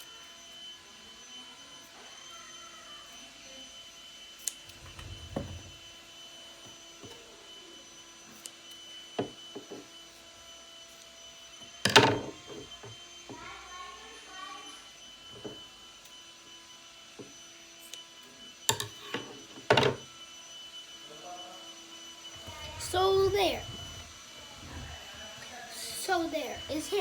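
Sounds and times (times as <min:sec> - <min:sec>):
high-pitched electrical hum: 0:00.0 - 0:27.0.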